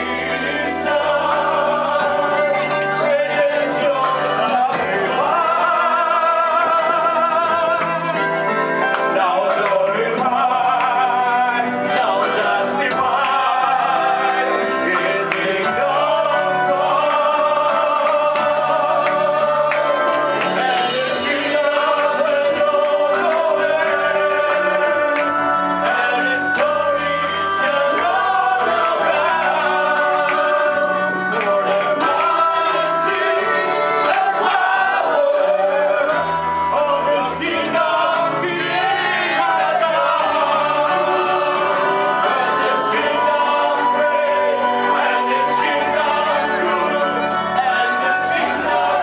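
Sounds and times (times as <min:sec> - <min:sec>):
men singing gospel: 0:00.0 - 0:49.0.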